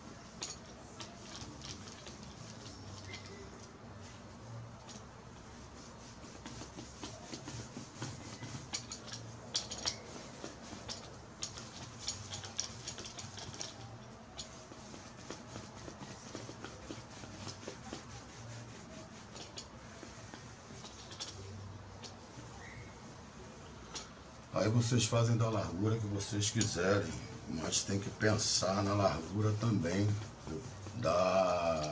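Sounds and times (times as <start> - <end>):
paint roller rubbing and crackling: 0.0 - 31.9.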